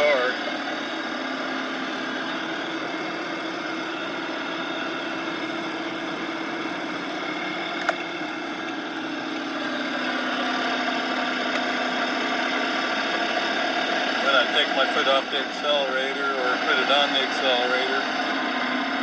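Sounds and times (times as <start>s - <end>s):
drivetrain whine: 0.0s - 19.0s
road and engine noise: 0.0s - 19.0s.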